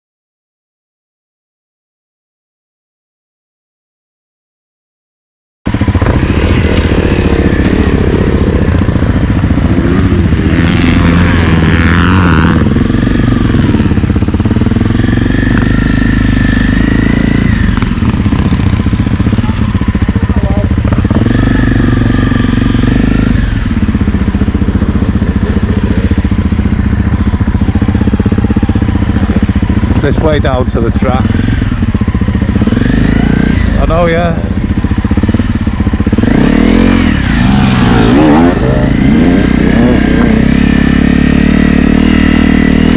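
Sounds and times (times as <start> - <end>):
motorcycle engine revving: 5.7 - 42.9.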